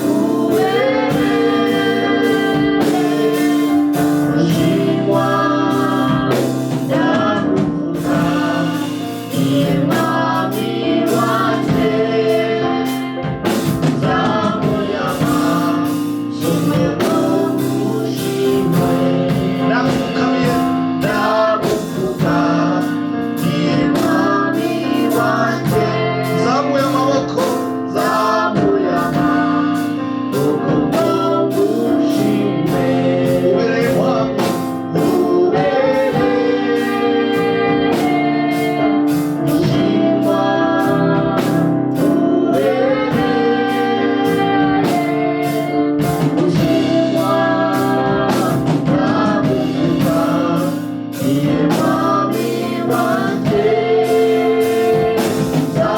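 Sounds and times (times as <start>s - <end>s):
band chords: 0.0s - 55.9s
steady drum beat: 0.0s - 55.9s
voices singing: 0.0s - 55.9s.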